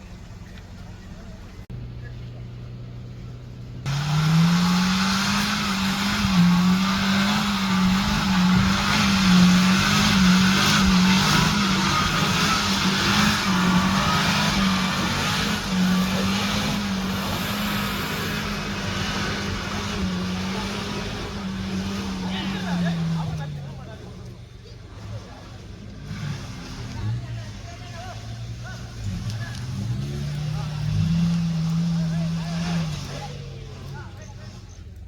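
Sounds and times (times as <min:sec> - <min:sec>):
vehicle engine running hard: 0:00.0 - 0:35.0.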